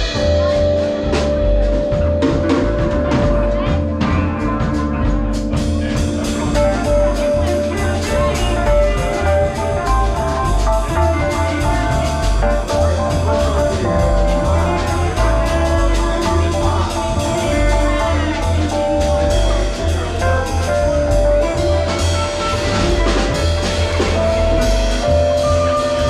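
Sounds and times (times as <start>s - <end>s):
live band playing blues: 0.0s - 26.0s
pulsing bass line: 0.0s - 26.0s.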